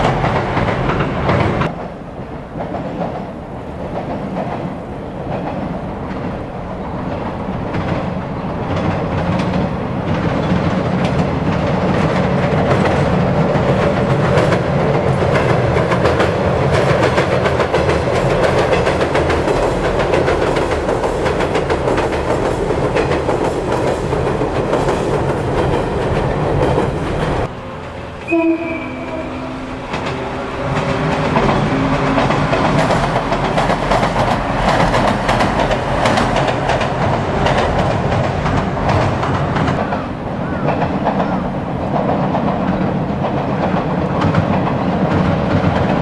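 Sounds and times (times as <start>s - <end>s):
train wheels clacking over rail joints: 0.0s - 46.0s.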